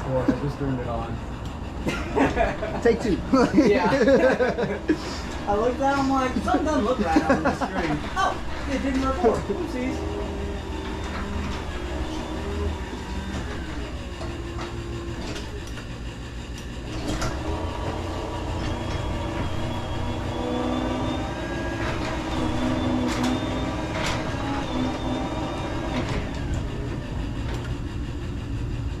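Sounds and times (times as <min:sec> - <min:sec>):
garage door rolling: 0:00.0 - 0:29.0.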